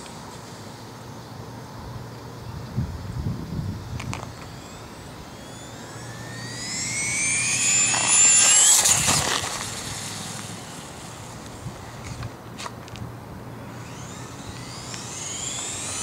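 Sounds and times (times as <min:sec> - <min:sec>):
rc truck motor whining: 0:03.1 - 0:16.0.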